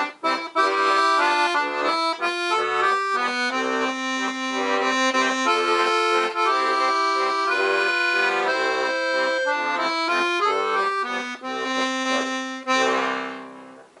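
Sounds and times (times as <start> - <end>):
piano accordion playing a tune: 0.0 - 14.0.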